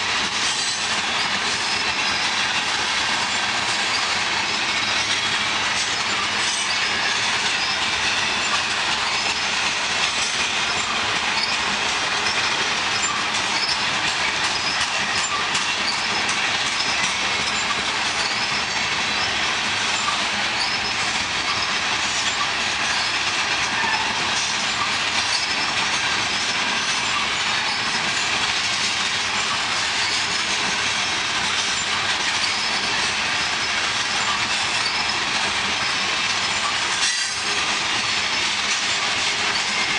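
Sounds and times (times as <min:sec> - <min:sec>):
freight train rolling past: 0:00.0 - 0:39.9
wheel squeaks: 0:00.4 - 0:39.9.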